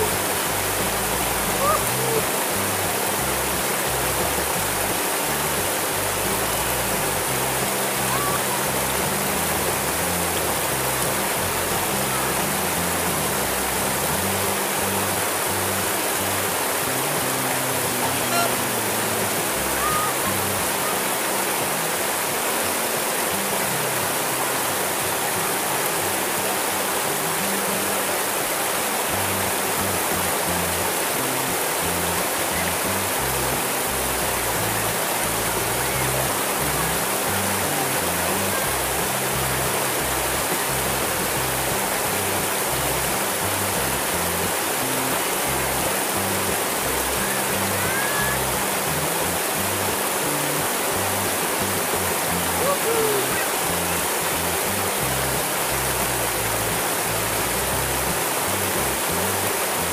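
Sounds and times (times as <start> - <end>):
river water rushing over stones: 0.0 - 59.9.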